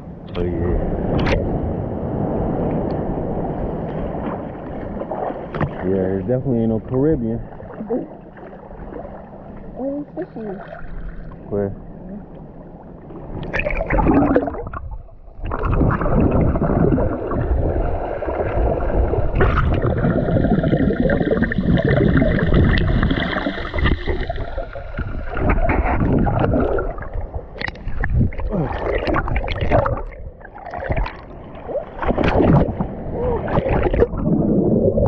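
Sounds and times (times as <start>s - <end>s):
muffled underwater rumble: 0.0s - 35.0s
seawater sloshing and gurgling: 3.3s - 35.0s.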